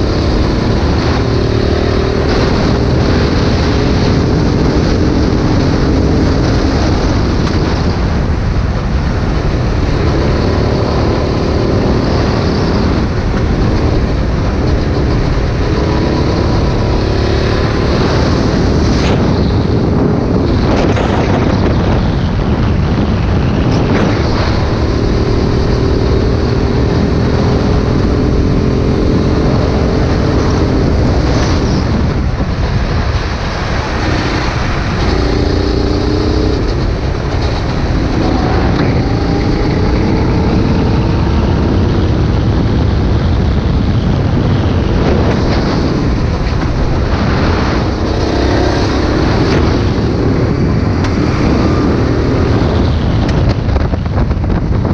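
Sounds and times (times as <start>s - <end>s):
go-kart engine running: 0.0s - 21.7s, 22.8s - 54.9s
rushing noise: 0.0s - 54.9s.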